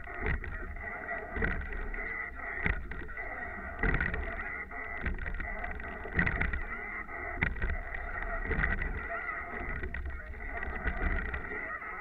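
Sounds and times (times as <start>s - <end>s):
oar stroke knocks: 0.0s - 12.0s
water noise: 0.0s - 12.0s
wind: 0.0s - 12.0s.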